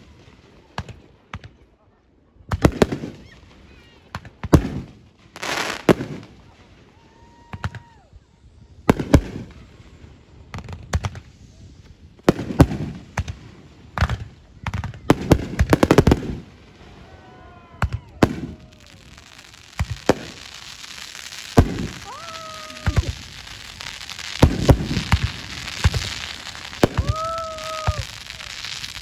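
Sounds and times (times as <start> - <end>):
fireworks bangs: 2.5 - 8.0, 8.8 - 29.0
fireworks crackling: 2.5 - 29.0.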